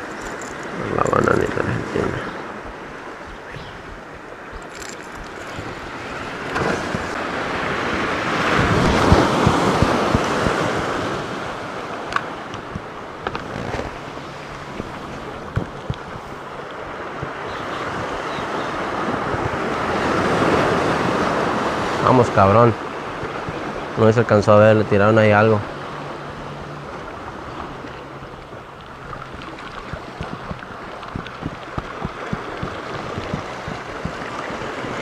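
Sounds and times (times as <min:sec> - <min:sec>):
surf washing against rocks: 0:00.0 - 0:35.0
wind buffeting microphone: 0:00.0 - 0:35.0.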